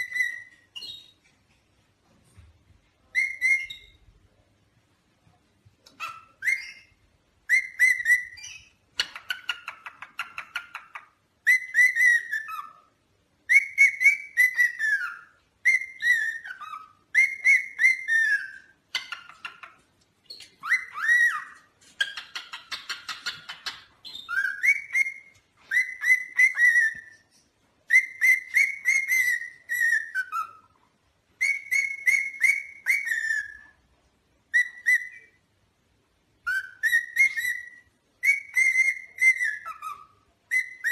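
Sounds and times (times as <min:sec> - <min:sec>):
parrot whistling: 0:00.0 - 0:01.2, 0:03.1 - 0:04.0, 0:05.9 - 0:12.9, 0:13.5 - 0:27.3, 0:27.9 - 0:30.7, 0:31.4 - 0:33.8, 0:34.5 - 0:35.4, 0:36.4 - 0:40.9.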